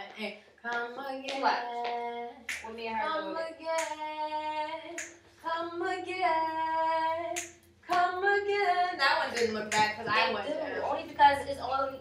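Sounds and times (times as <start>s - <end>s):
woman singing: 0.6s - 12.0s.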